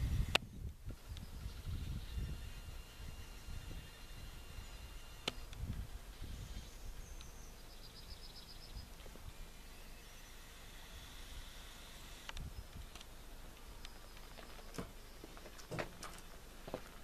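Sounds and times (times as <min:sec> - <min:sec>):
small bird chirping: 0:00.0 - 0:15.6
low outdoor rumble: 0:00.0 - 0:17.0.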